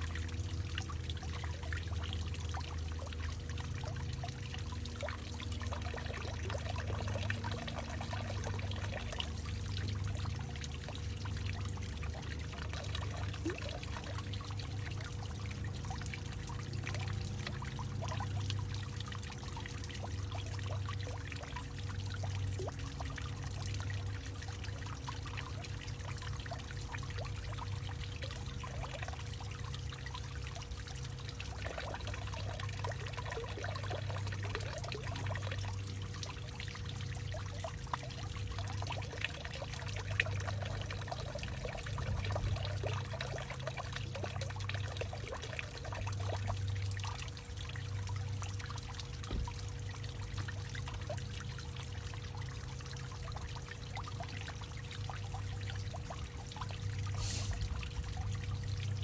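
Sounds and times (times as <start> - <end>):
steady low hum: 0.0 - 59.0
water trickling and dripping: 0.0 - 59.0.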